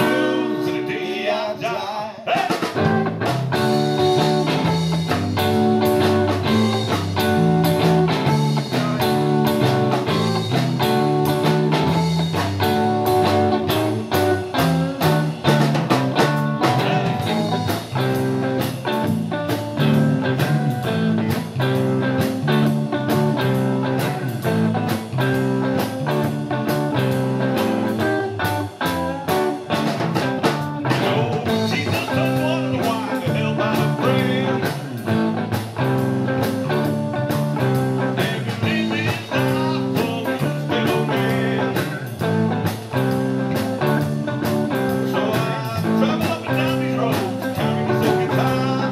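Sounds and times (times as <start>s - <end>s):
electric bass: 0.0s - 1.1s, 2.6s - 48.9s
drum kit: 0.0s - 48.9s
electric guitar: 0.0s - 48.9s.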